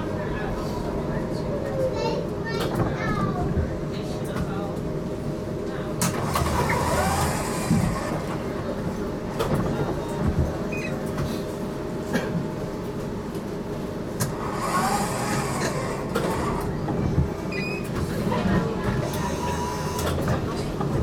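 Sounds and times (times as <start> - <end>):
tram interior low rumble: 0.0 - 21.0.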